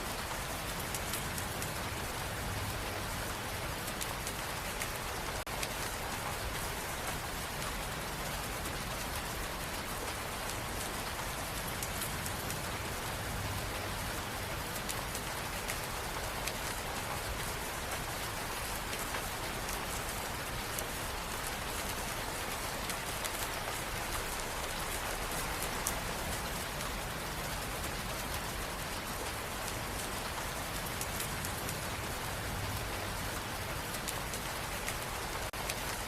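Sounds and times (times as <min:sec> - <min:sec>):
steady rainfall: 0:00.0 - 0:36.0.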